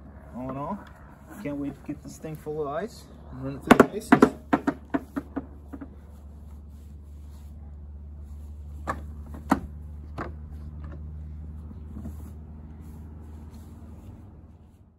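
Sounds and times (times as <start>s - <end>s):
low background rumble: 0.0s - 14.9s.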